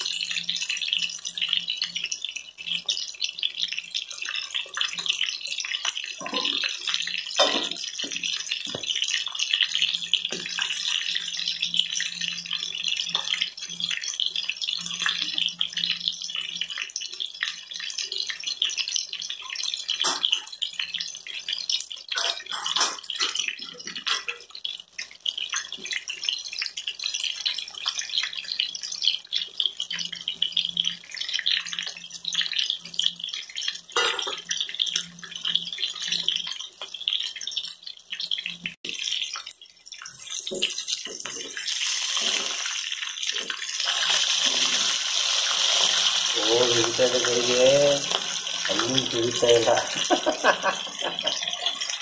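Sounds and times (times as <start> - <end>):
chicken deep-frying in hot oil: 0.0 - 52.0.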